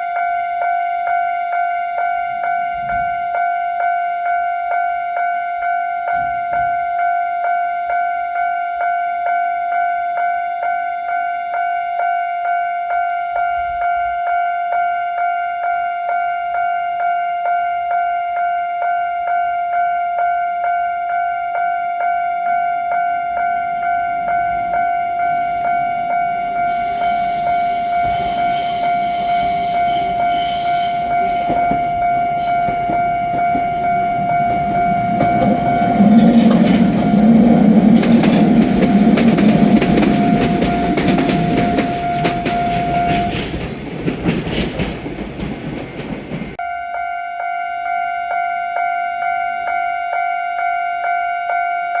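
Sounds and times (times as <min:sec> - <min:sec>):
electric train passing: 0:00.0 - 0:09.5, 0:10.2 - 0:46.6
level-crossing bell clanging: 0:00.0 - 0:52.0.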